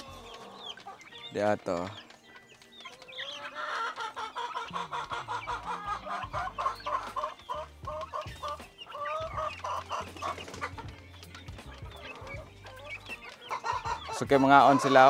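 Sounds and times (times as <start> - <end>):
beaks pecking at feed: 0.0 - 15.0
chickens clucking: 0.0 - 15.0.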